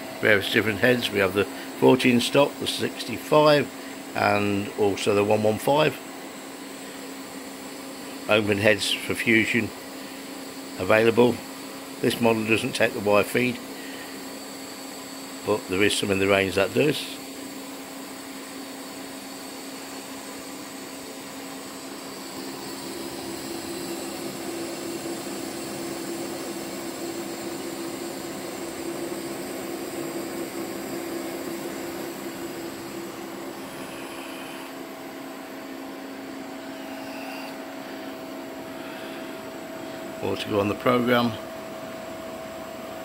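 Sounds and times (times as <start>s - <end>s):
welding machine hum and hiss: 0.0s - 43.0s.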